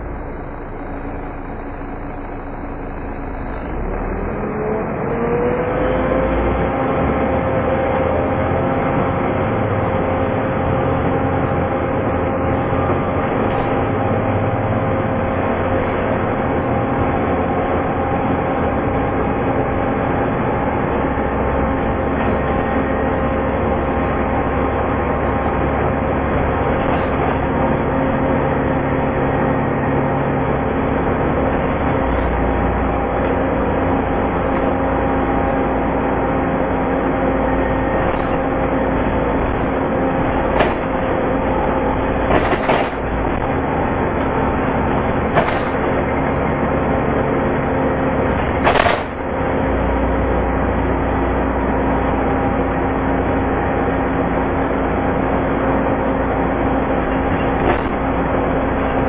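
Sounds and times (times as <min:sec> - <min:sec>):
bus engine with whining fan: 0:00.0 - 0:59.0.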